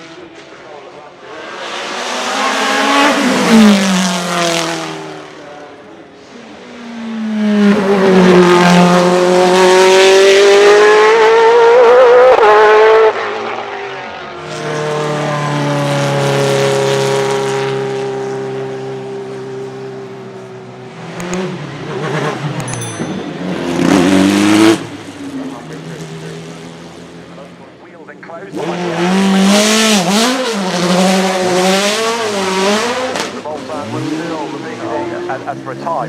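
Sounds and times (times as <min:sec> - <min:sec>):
racing car engine revving: 0:00.0 - 0:20.2, 0:23.3 - 0:36.0.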